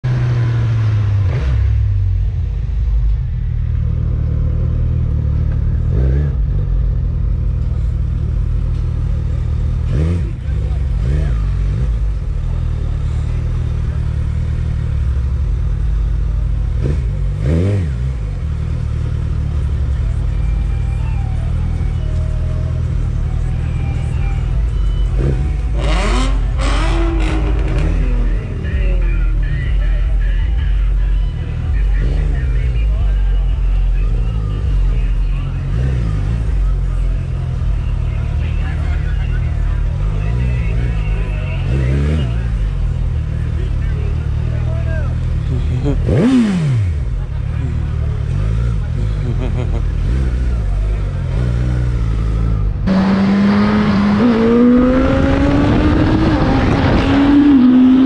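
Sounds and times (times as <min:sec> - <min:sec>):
motorcycle engine revving: 0:00.0 - 0:58.0
motorcycle engine running: 0:01.7 - 0:58.0.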